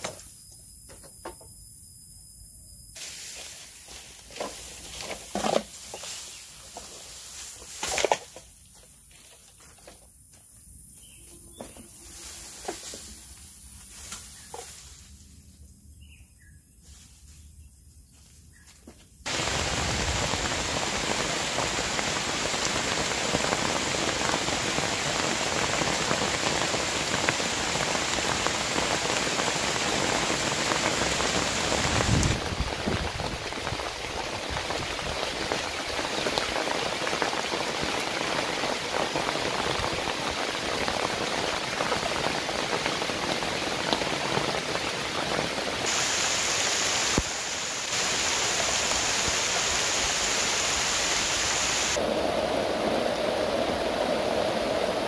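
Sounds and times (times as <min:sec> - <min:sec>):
rain on thatch roof and leaves: 0:03.0 - 0:09.3, 0:12.0 - 0:15.2, 0:19.2 - 0:55.0.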